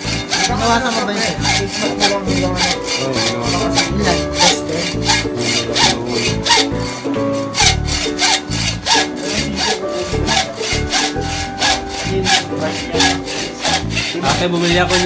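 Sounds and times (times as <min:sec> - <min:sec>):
hacksaw cutting metal tube: 0:00.0 - 0:15.0.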